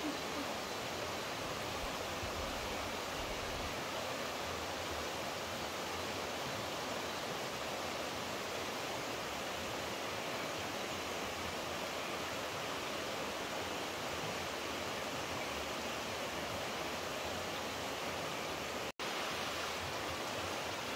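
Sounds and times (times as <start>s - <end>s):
rushing water: 0.0s - 20.9s.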